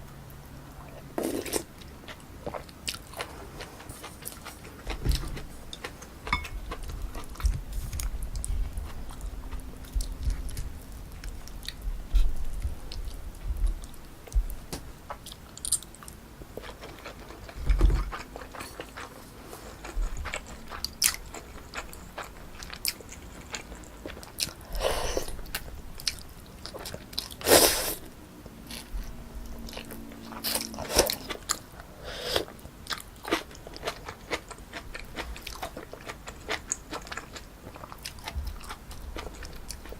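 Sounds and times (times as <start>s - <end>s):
chewing with wet clicks: 1.8s - 11.8s, 15.1s - 24.7s, 25.3s - 27.4s, 28.4s - 39.9s.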